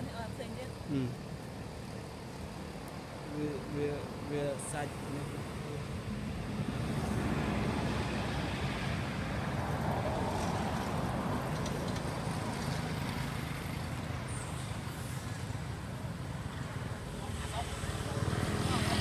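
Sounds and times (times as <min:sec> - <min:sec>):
motorbikes passing: 0:03.3 - 0:19.0.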